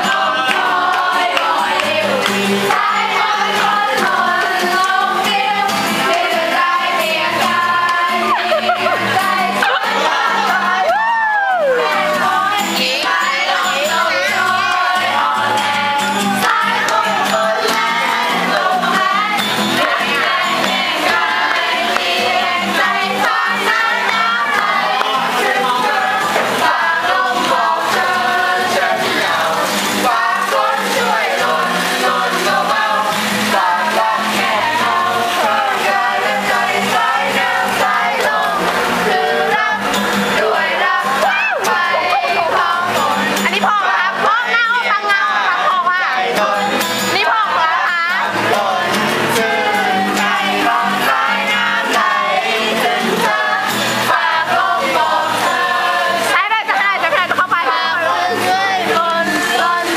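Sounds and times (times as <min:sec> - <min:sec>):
crowd singing loudly: 0:00.0 - 0:59.9.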